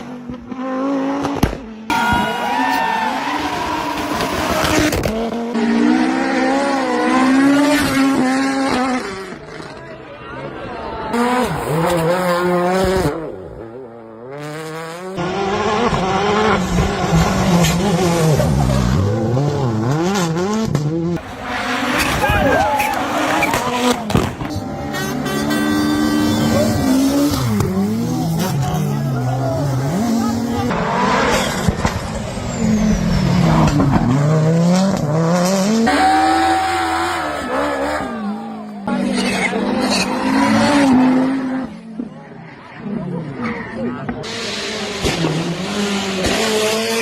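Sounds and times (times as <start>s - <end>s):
rally car engine revving: 0.0s - 9.8s, 11.1s - 47.0s.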